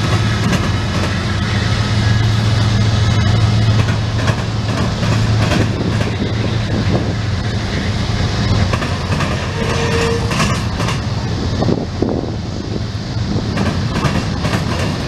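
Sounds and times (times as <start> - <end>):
wheels clicking over rail joints: 0.0 - 1.6, 3.2 - 12.0, 13.2 - 15.0
freight cars rumbling past: 0.0 - 15.0.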